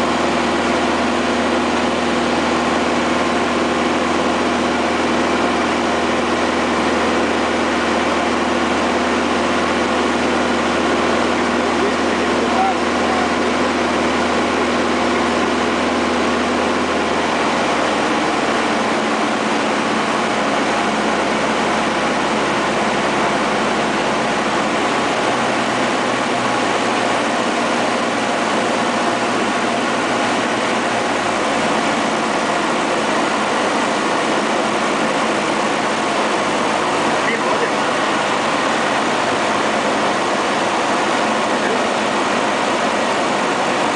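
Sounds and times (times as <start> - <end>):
aircraft engine and propeller droning: 0.0 - 43.9.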